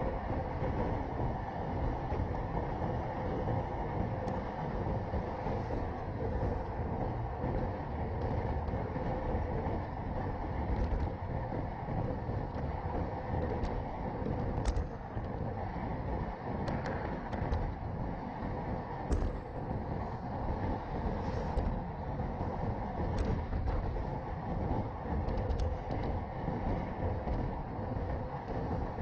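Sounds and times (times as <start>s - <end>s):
bike tyres rolling on asphalt: 0.0s - 29.0s
wind rush: 0.0s - 29.0s.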